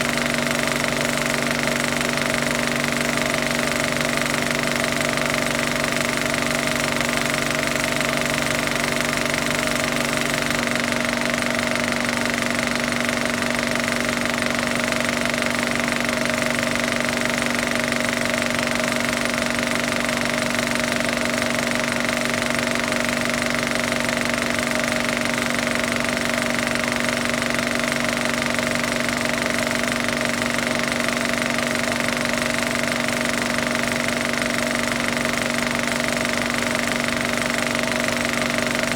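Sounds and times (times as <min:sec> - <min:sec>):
film projector whirring and clattering: 0:00.0 - 0:38.9.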